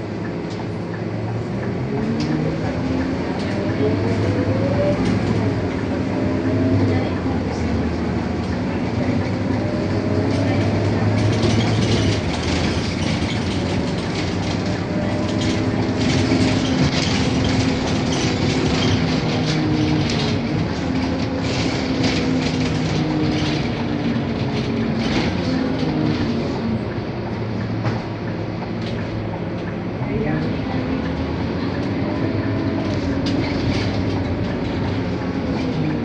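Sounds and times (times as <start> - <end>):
bus body rattling and clicking: 0.0 - 36.0
bus diesel engine droning: 0.0 - 36.0.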